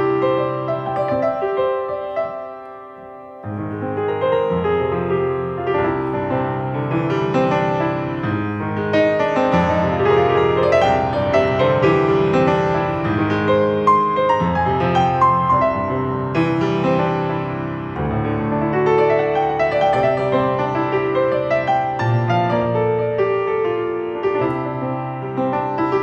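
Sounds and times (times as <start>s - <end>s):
grand piano melody: 0.0s - 26.0s.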